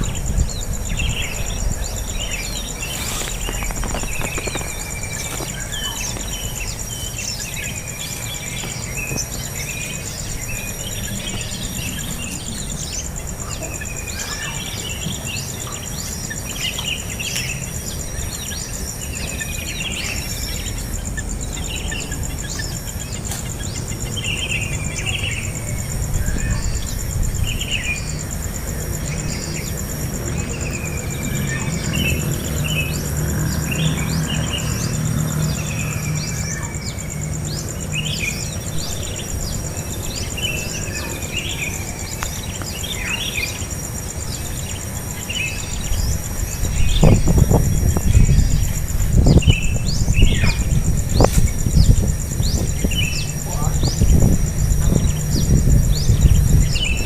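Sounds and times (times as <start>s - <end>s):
high-pitched insect drone: 0.0s - 57.0s
small birds chirping: 0.0s - 57.0s.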